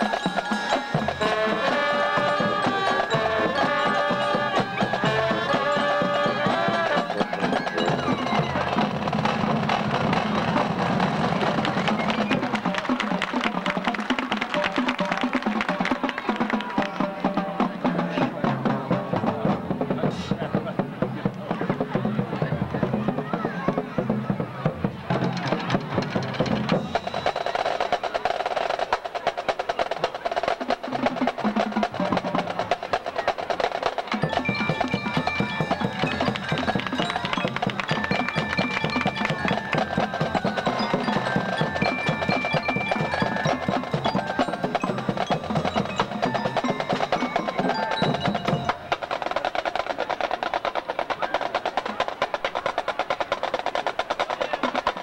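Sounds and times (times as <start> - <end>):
marching drumline cadence: 0.0 - 55.0.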